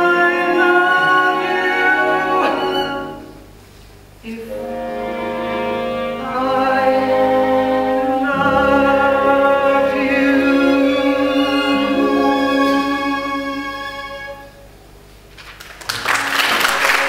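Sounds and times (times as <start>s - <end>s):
orchestra playing held chords: 0.0s - 3.5s, 4.4s - 14.8s.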